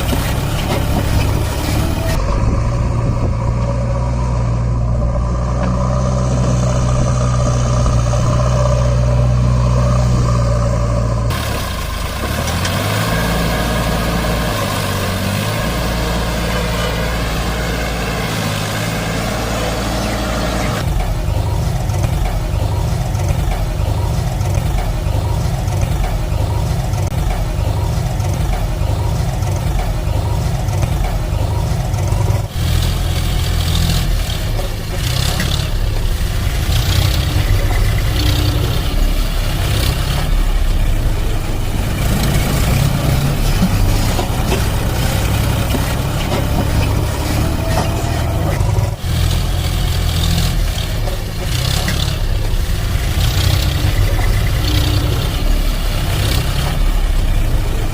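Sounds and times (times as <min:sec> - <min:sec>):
heavy vehicle engine running: 0:00.0 - 0:57.9.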